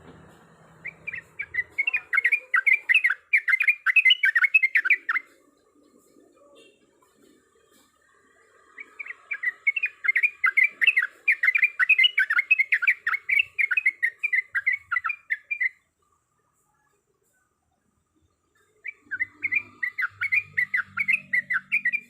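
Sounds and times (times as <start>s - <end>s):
bird warbling song: 0.7s - 15.9s, 18.4s - 22.0s.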